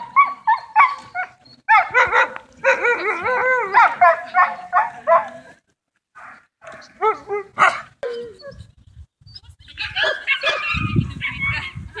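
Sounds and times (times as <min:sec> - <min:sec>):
dogs barking and yelping: 0:00.0 - 0:05.5, 0:06.2 - 0:08.8, 0:09.7 - 0:11.7.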